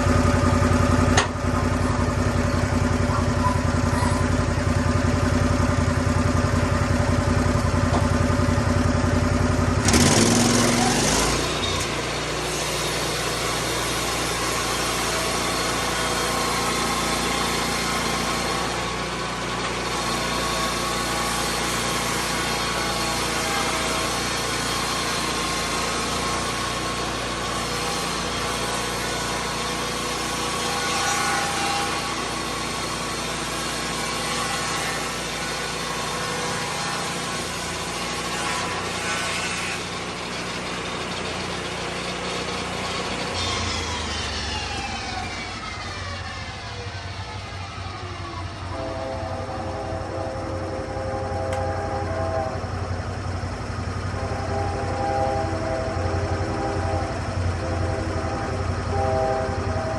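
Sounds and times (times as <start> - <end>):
circular saw cutting log: 0.0 - 52.8
sawmill engine running: 0.0 - 59.9.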